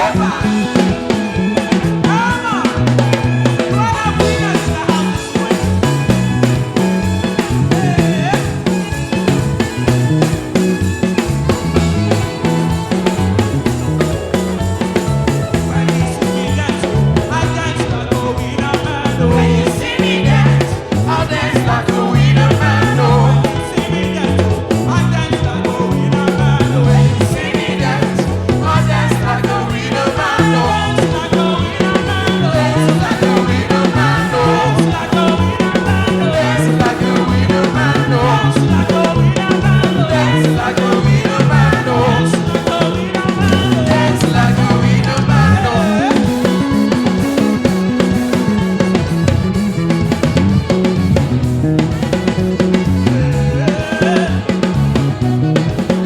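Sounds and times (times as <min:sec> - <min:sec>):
singing: 0:00.0 - 0:49.2, 0:52.0 - 0:56.0
bass line: 0:00.0 - 0:56.0
upbeat gospel band music: 0:00.0 - 0:56.0.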